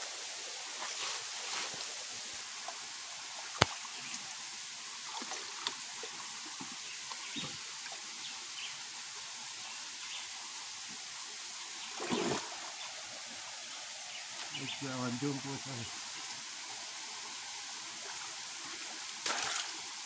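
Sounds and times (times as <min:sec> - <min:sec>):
stream trickling over rocks: 0:00.0 - 0:20.0.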